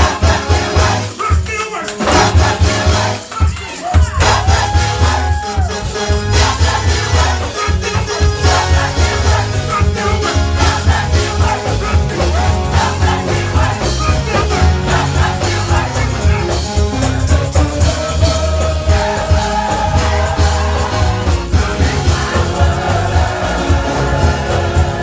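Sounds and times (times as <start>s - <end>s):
heavy bass: 0.0s - 1.1s, 2.1s - 3.2s, 4.2s - 25.0s
choir singing gospel: 0.0s - 25.0s
drum beat: 0.0s - 25.0s.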